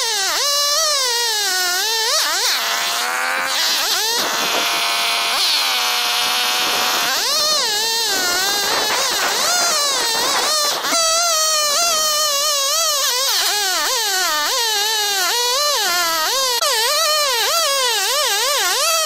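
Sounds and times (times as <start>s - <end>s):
chainsaw cutting log: 0.0s - 19.0s.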